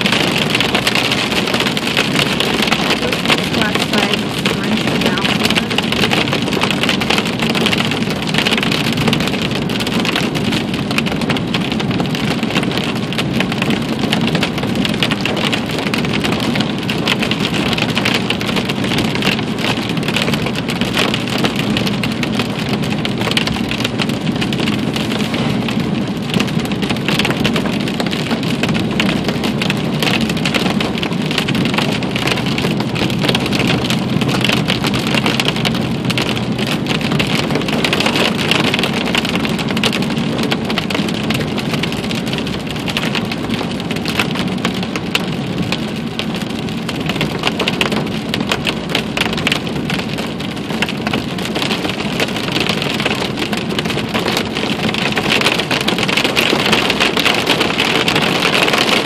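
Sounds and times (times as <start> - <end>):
heavy rain on car windshield: 0.0 - 59.0.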